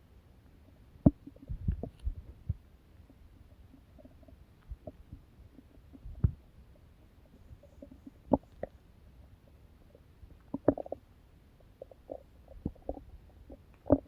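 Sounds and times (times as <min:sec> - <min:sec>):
low gurgling with pops: 0:01.0 - 0:14.0.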